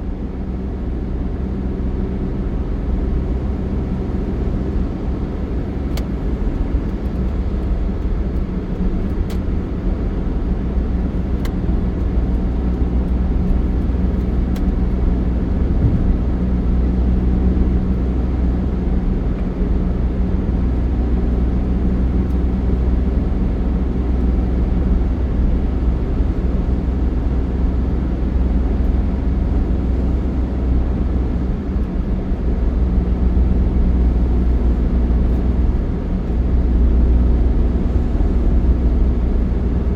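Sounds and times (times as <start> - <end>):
vehicle engine and road drone: 0.0 - 39.9.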